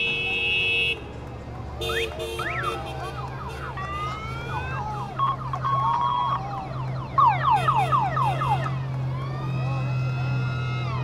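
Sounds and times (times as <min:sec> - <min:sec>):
motorcycle engines droning: 0:01.1 - 0:11.0
electronic sirens wailing: 0:01.9 - 0:11.0.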